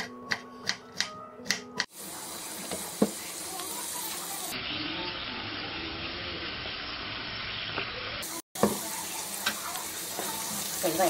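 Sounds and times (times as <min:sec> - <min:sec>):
vegetables sizzling in a pan: 0:01.9 - 0:11.0.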